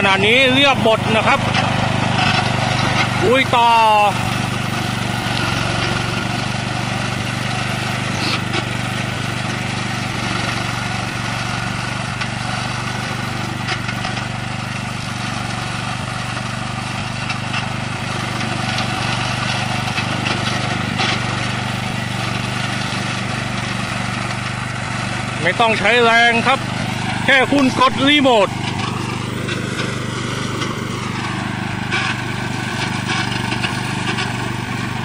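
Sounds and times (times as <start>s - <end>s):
mower cutting tall grass: 0.0s - 35.0s
mower engine running: 0.0s - 35.0s.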